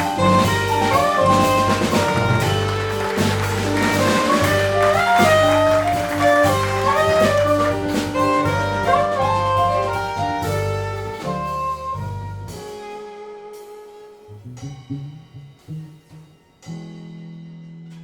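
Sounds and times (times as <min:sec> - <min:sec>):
saxophone melody: 0:00.0 - 0:16.2
live jazz quartet: 0:00.0 - 0:18.0.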